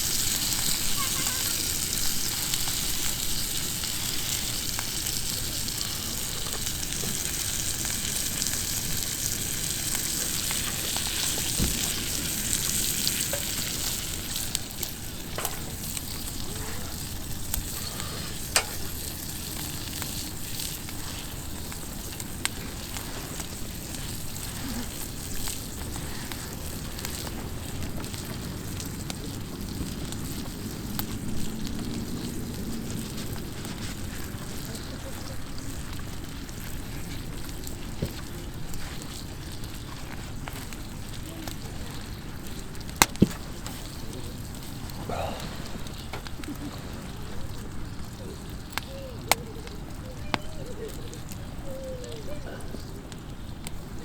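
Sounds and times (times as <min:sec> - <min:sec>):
campfire sizzling and crackling: 0:00.0 - 0:54.0.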